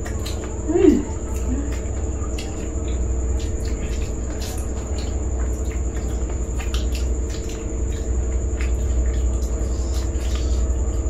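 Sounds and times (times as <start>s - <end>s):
crunching and wet chewing: 0.0s - 11.0s
faint high whine: 0.0s - 11.0s
steady low hum: 0.0s - 11.0s.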